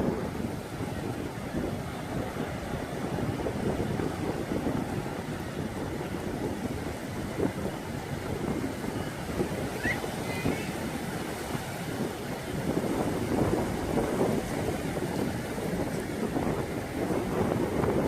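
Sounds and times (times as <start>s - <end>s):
sea waves washing on shore: 0.0s - 18.0s
wind buffeting microphone: 0.0s - 18.0s.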